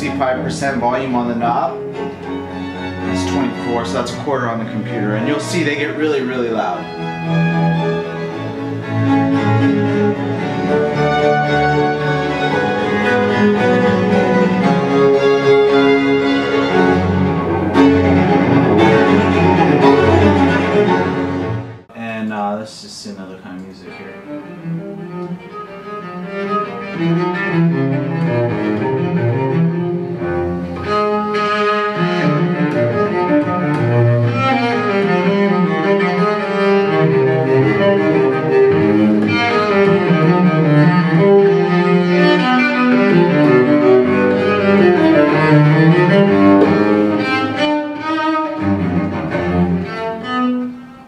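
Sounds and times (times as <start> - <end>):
classical cello music over speakers: 0.0 - 21.9, 23.6 - 51.0.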